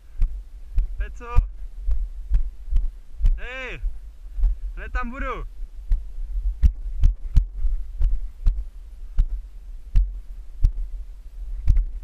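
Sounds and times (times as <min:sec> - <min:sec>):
low rumble: 0:00.0 - 0:12.0
footsteps on stone: 0:00.2 - 0:04.8, 0:05.8 - 0:11.0, 0:11.6 - 0:12.0.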